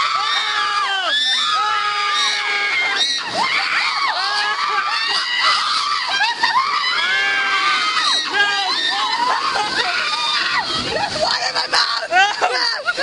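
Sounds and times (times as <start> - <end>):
people screaming and shrieking: 0.0 - 13.0.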